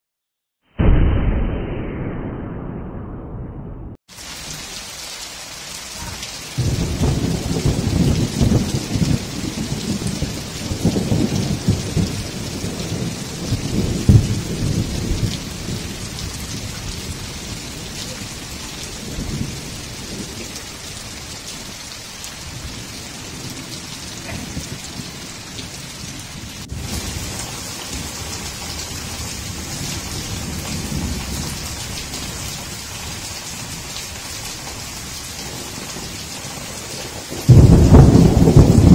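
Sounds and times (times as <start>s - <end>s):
thunder rumbling: 0.8s - 4.5s, 6.0s - 38.9s
heavy rain pouring: 4.1s - 38.9s
rain streaming off roof edge: 4.1s - 38.9s.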